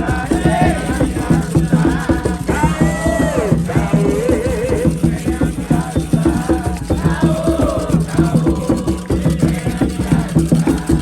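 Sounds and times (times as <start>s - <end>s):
fast hand drumming: 0.0s - 11.0s
rattle shaking: 0.0s - 11.0s
voices singing a chant: 0.0s - 11.0s.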